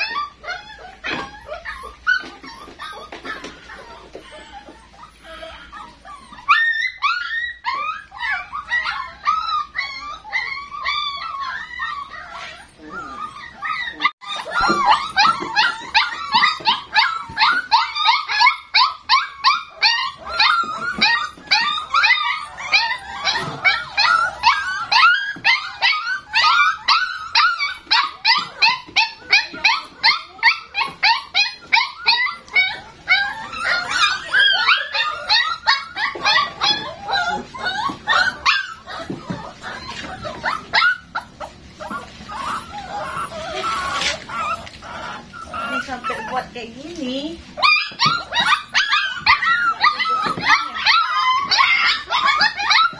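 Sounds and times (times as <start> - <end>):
puppies yelping and whining: 0.0 - 52.9.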